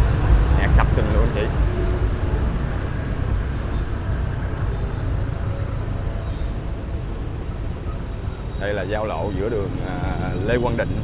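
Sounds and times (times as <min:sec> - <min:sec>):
city street traffic: 0:00.0 - 0:11.0
heavy low rumble: 0:00.0 - 0:11.0.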